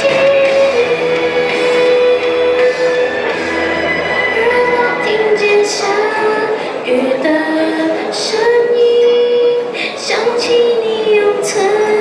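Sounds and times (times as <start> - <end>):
girl singing through speakers: 0.0 - 12.0.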